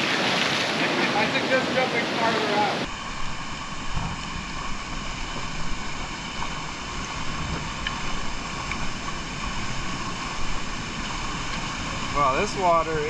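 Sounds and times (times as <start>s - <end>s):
waterfall and creek rushing: 0.0s - 13.0s.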